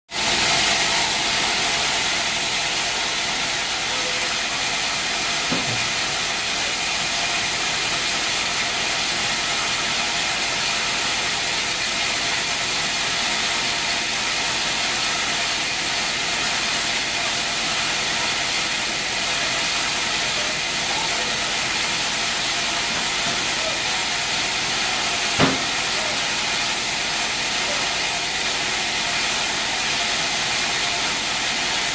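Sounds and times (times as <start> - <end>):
sawmill machinery hissing: 0.1 - 31.9.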